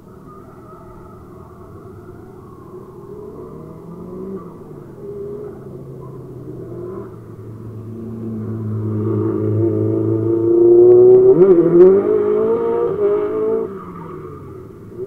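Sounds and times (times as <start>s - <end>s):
distant car engines revving: 0.0s - 15.0s.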